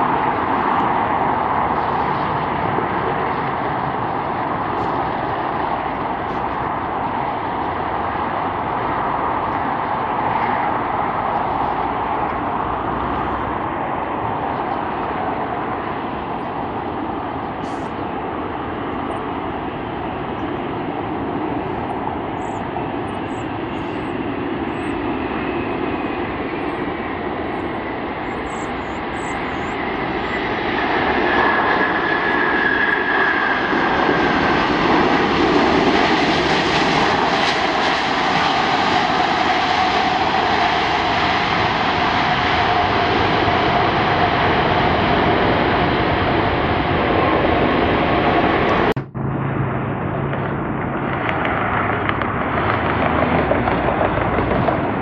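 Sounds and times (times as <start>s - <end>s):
engine whine: 0.0s - 55.0s
jet engines: 0.0s - 55.0s.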